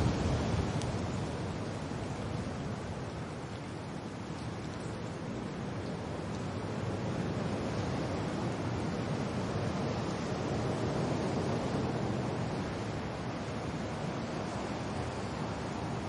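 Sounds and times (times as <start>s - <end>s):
wind and rain: 0.0s - 16.0s.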